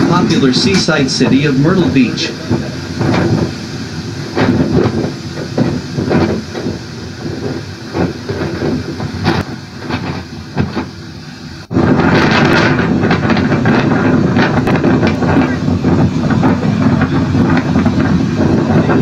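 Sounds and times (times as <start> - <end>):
gusting wind: 0.0 - 19.0
rushing water: 0.0 - 19.0.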